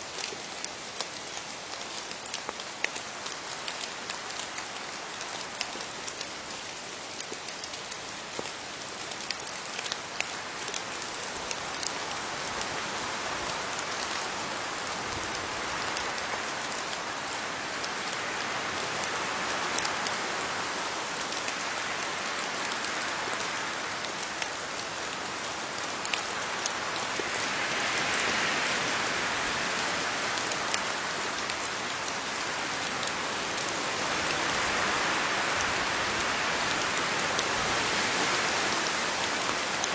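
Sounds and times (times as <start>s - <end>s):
rain falling on leaves: 0.0s - 39.9s
small raindrop ticks: 0.0s - 39.9s.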